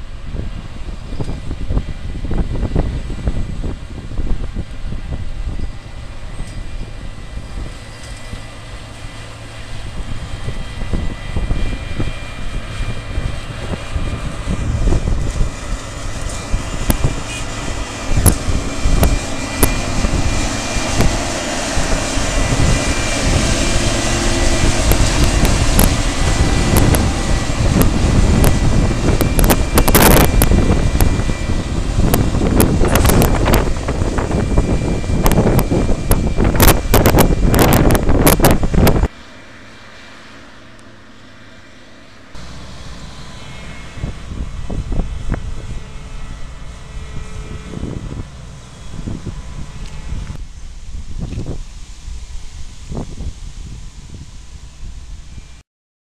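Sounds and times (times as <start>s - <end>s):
combine harvester engine drone: 0.0s - 55.6s.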